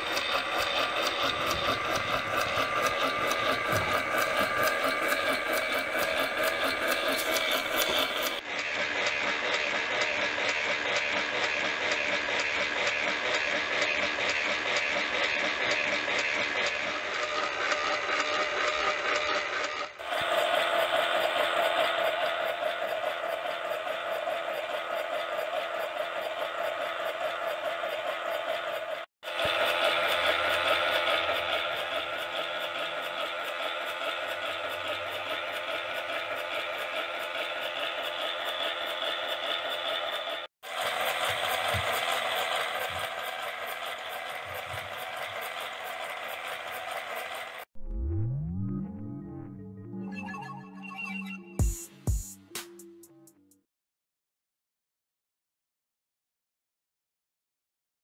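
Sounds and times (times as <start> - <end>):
toy motor clattering and whirring: 0.0 - 47.7.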